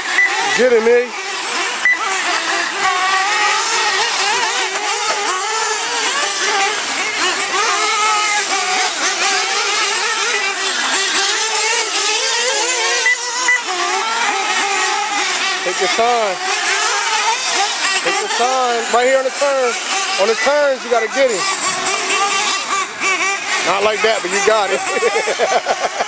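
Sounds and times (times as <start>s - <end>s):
small engines of rc cars revving: 0.0s - 26.0s.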